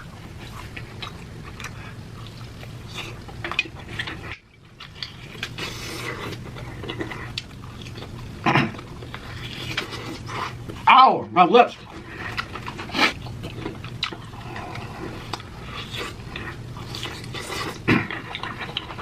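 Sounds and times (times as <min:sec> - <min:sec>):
chewing food: 0:00.0 - 0:10.9, 0:11.7 - 0:19.0.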